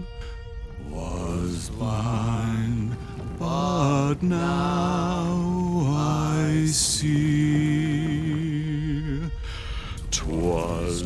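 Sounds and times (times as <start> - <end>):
men singing a hymn in harmony: 0.8 - 9.3, 10.0 - 11.0.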